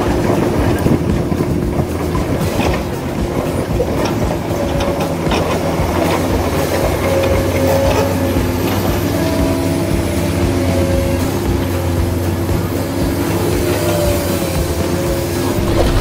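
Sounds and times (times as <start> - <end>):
gearboxes clicking and rattling: 0.0 - 16.0.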